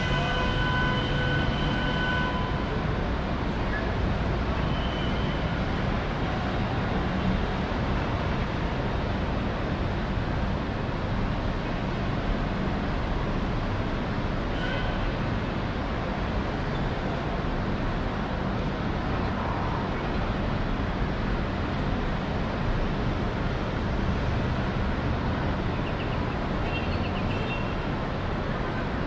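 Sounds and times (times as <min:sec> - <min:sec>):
distant city traffic roar: 0:00.0 - 0:29.0.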